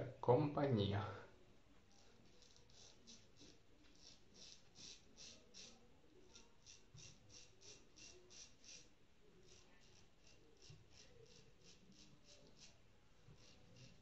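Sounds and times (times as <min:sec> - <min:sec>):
razor scraping stubble: 0:01.9 - 0:14.0.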